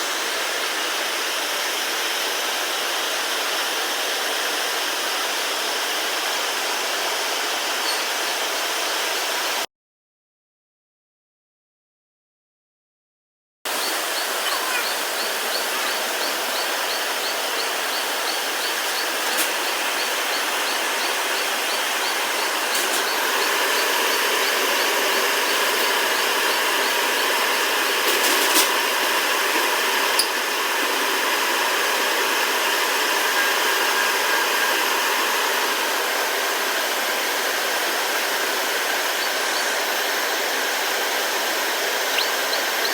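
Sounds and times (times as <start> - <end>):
rushing air and equipment fans: 0.0 - 9.7, 13.7 - 42.9.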